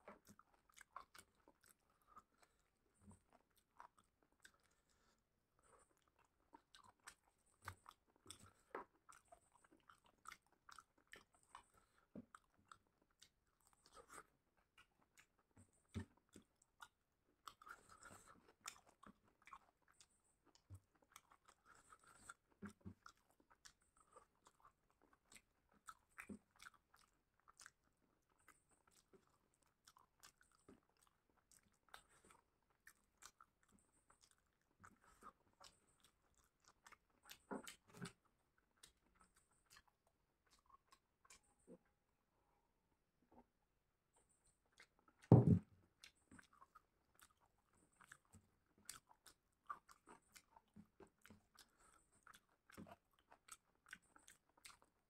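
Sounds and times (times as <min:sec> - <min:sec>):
wet chewing smacks: 0:00.0 - 0:42.0, 0:44.2 - 0:55.0.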